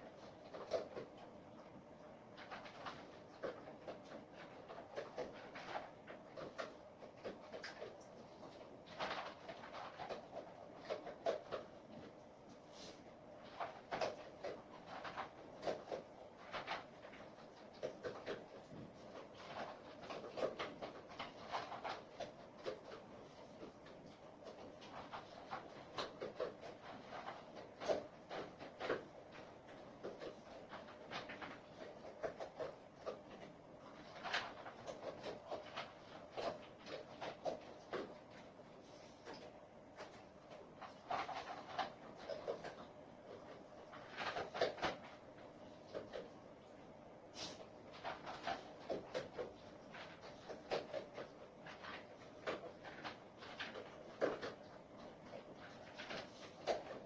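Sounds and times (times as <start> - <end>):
dog crunching and chewing: 2.3 - 46.8, 47.4 - 57.0.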